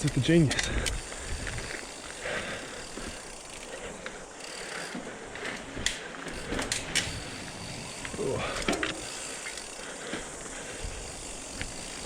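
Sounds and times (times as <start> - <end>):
bike clicks and rattles: 0.0 - 12.0
bike tyre and drivetrain noise: 0.0 - 12.0.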